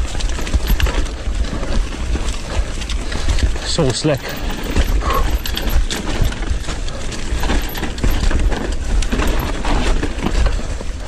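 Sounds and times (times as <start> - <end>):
mountain bike rattling and knocking: 0.0 - 11.0
tyres rolling on dirt and leaves: 0.0 - 11.0.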